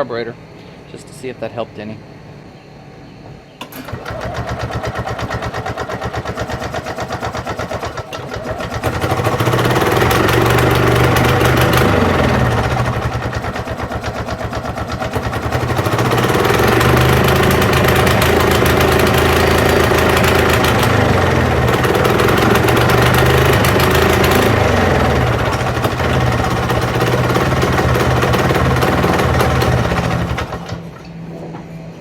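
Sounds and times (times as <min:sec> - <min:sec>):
two-stroke engine running: 0:03.6 - 0:31.2.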